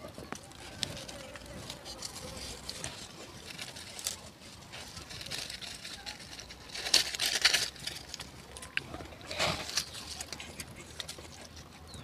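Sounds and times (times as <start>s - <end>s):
small crackles: 0.0s - 12.0s.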